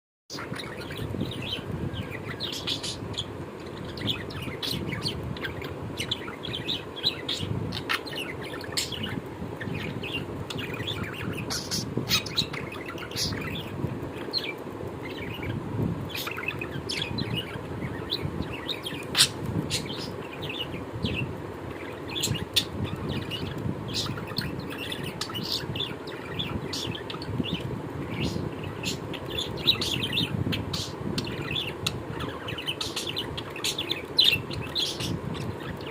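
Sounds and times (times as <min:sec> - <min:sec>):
birds chirping: 0:00.3 - 0:35.9
low background rumble: 0:00.4 - 0:35.9.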